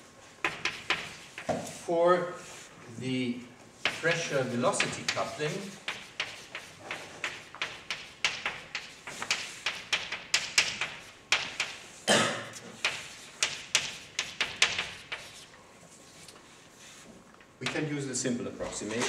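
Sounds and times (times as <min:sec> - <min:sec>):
chalk tapping and scraping on blackboard: 0:00.4 - 0:01.8, 0:03.8 - 0:18.0.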